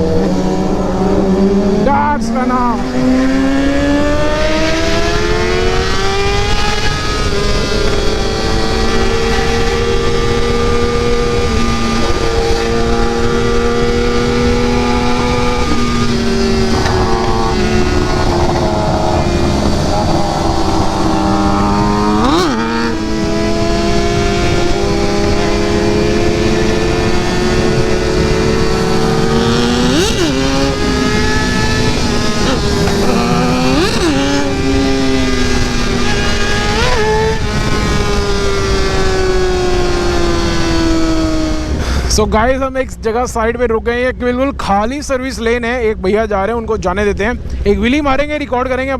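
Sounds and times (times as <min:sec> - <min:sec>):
motorcycle engine running: 0:00.0 - 0:42.1
wind noise: 0:00.0 - 0:48.4.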